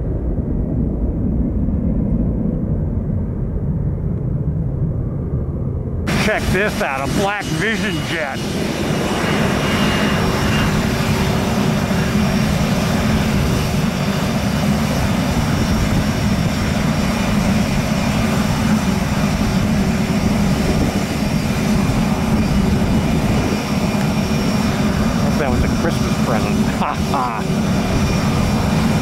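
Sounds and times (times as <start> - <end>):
jet engine running: 0.0 - 29.0.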